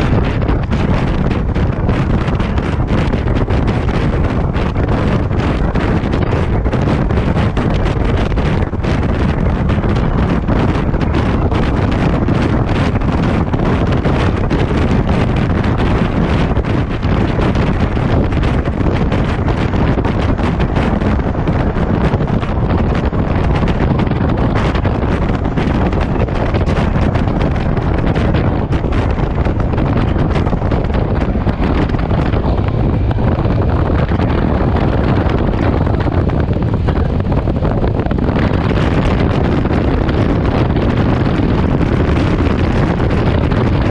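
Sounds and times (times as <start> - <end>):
motorcycle engine: 0.0 - 43.9
wind buffeting microphone: 0.0 - 43.9.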